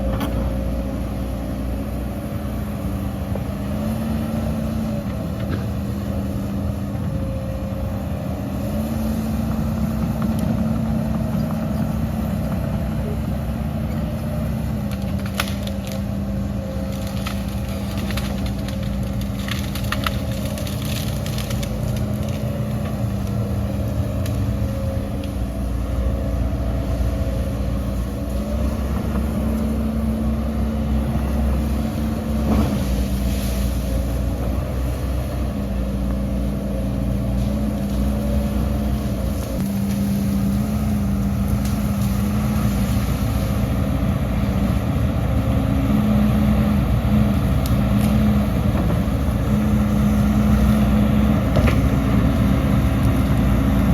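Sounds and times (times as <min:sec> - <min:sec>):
heavy diesel engine under load: 0:00.0 - 0:53.9.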